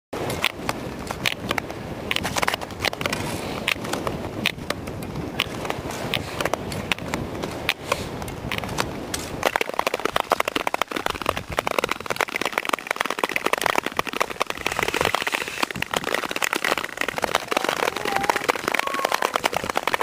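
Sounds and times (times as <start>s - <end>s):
ice skating: 0.2s - 20.0s
lake ice crackling and pinging: 0.2s - 20.0s
wind on microphone: 0.2s - 20.0s.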